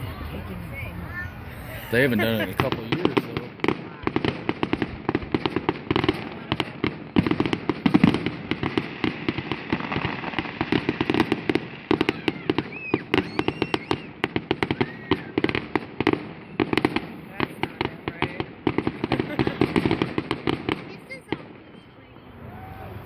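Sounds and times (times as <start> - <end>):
fireworks cracking and popping: 1.7 - 22.9.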